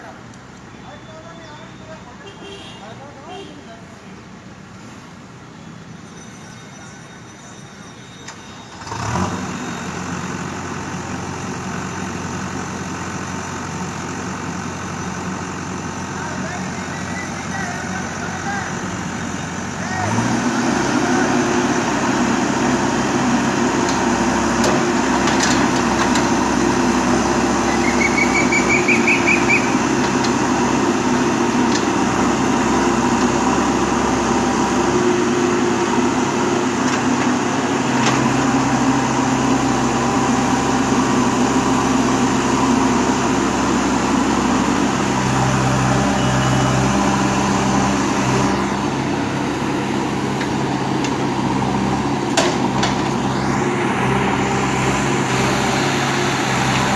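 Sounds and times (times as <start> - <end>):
bulldozer engine running: 8.7 - 56.9.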